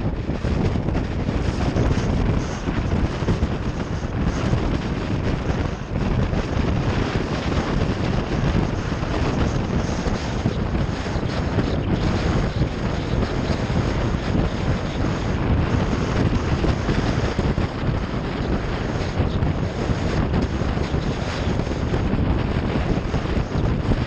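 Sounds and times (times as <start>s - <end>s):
motorcycle engine and road noise: 0.0s - 24.0s
wind buffeting microphone: 0.0s - 24.0s.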